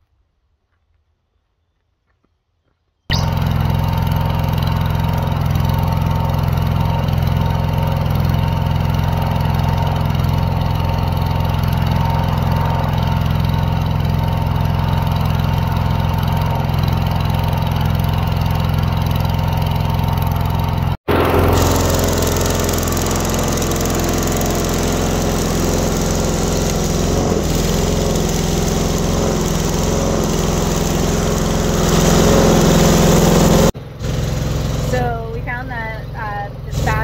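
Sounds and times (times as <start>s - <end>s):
engine-driven welder running: 3.1s - 37.0s.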